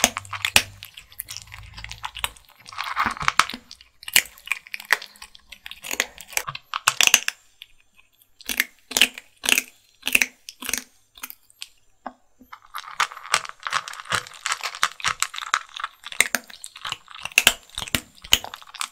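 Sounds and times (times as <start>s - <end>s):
kittens crunching dry kibble: 0.0s - 11.7s, 12.5s - 18.9s.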